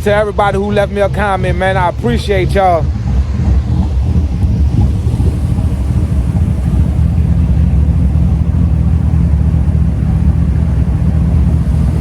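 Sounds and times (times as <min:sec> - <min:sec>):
engine idling with deep exhaust: 0:00.0 - 0:12.0.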